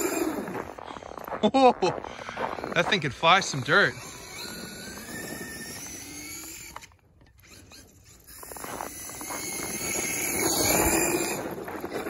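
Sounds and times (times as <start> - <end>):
electric motor whining: 0.0 - 0.8, 2.2 - 12.0.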